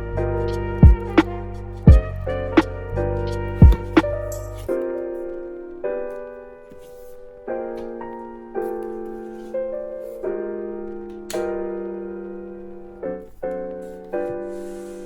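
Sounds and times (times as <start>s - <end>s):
soft lofi piano chords: 0.0s - 15.0s.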